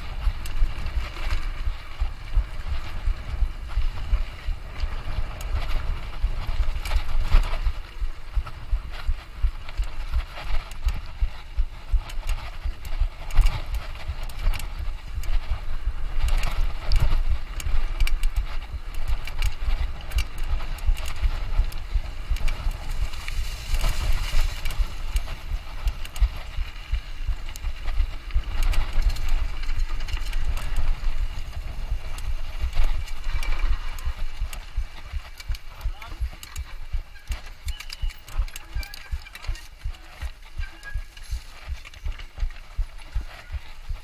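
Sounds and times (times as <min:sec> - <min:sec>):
bike clicks and rattles: 0:00.0 - 0:44.0
bike tyres rumbling on trail: 0:00.0 - 0:44.0.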